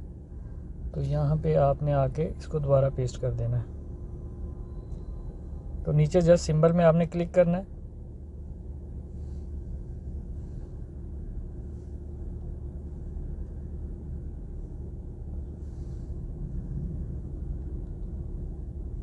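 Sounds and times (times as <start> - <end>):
faint constant hum: 0.0 - 19.0
low background rumble: 0.0 - 19.0.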